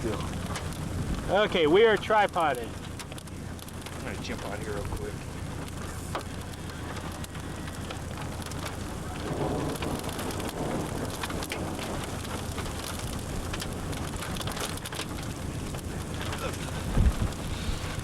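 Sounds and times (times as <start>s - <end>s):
hail ticking: 0.0s - 18.0s
rain hissing: 0.0s - 18.0s.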